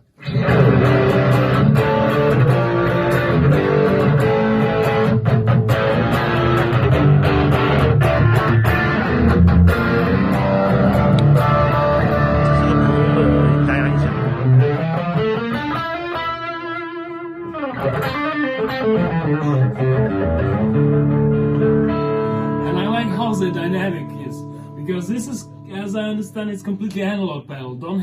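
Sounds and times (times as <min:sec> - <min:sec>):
electric guitar playing: 0:00.0 - 0:26.9.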